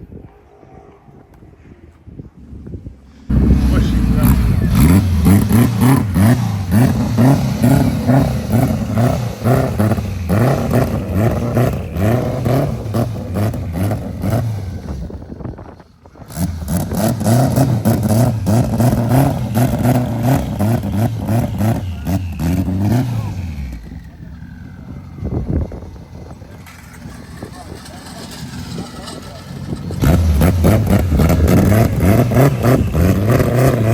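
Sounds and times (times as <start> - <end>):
car engine revving: 3.2 - 33.9
exhaust popping and crackling: 3.2 - 33.9.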